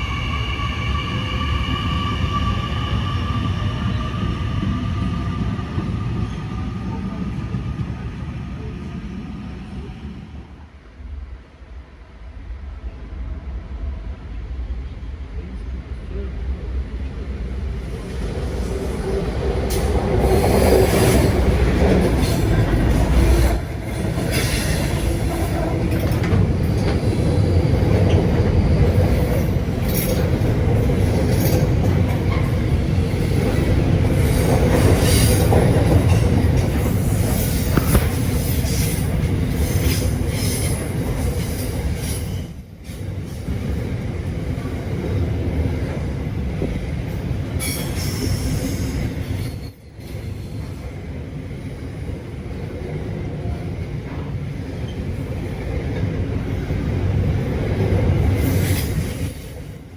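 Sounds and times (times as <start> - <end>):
train wheels rumbling on rails: 0.0 - 11.5, 12.2 - 59.9.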